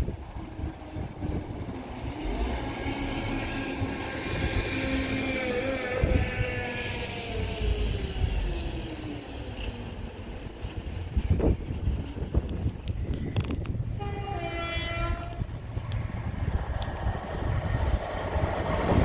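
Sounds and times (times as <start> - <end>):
train passing: 0.0 - 19.0
wind rumbling on microphone: 0.0 - 19.0.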